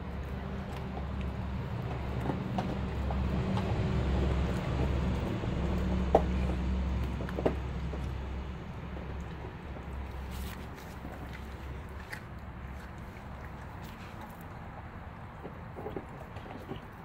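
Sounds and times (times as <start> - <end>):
low steady rumble: 0.0 - 17.0
puppy licking and chewing: 0.1 - 17.0.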